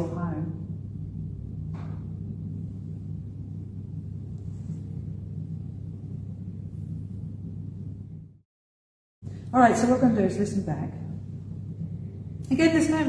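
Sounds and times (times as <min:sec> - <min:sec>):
low room hum: 0:00.0 - 0:08.4, 0:09.2 - 0:13.0.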